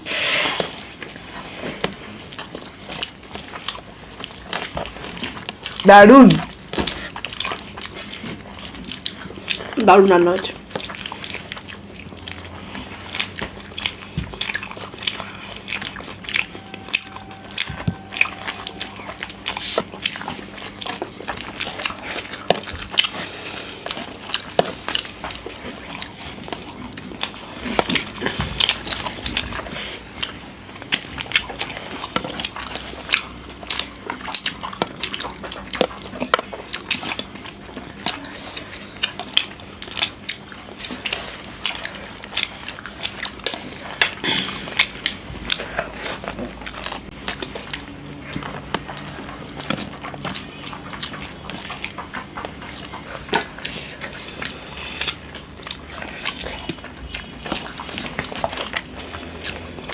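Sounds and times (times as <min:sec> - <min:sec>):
chewing and lip smacks: 0:00.0 - 0:59.9.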